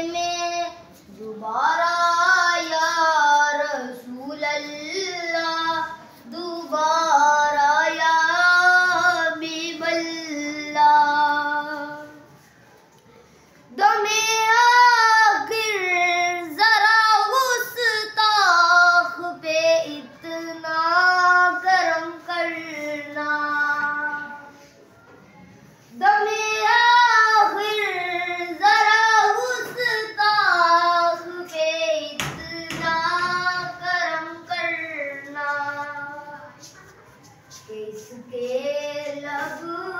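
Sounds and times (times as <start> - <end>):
boy singing unaccompanied: 0.0 - 12.4, 13.7 - 24.6, 25.8 - 39.9.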